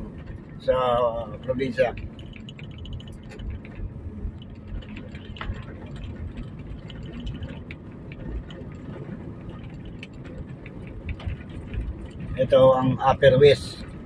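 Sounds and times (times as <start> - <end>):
engine and tyre rumble: 0.0 - 14.0
faint ticks and rattles: 0.0 - 14.0.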